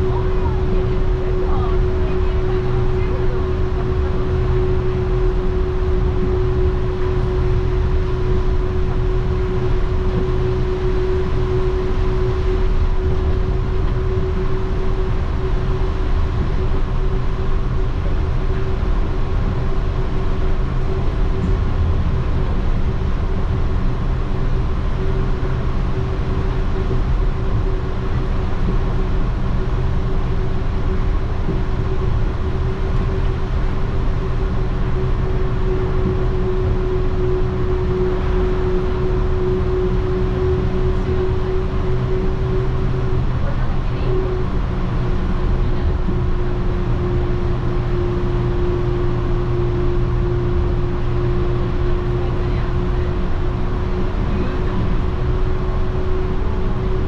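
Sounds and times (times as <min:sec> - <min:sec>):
steady train hum: 0:00.0 - 0:57.0.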